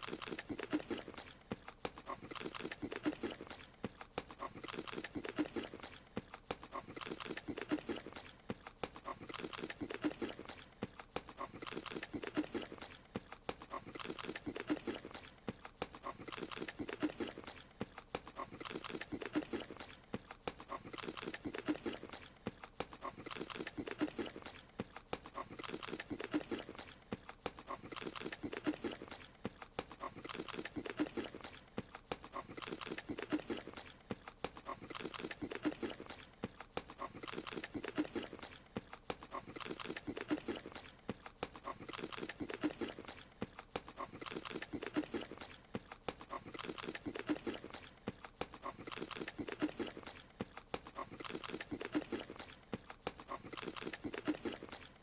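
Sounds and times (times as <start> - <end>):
cartoon wet chewing: 0.0 - 55.0.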